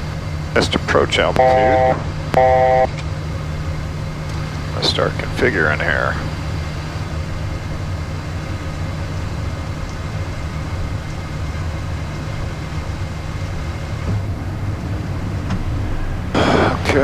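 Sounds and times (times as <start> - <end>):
jet cockpit engine hum: 0.0 - 17.0.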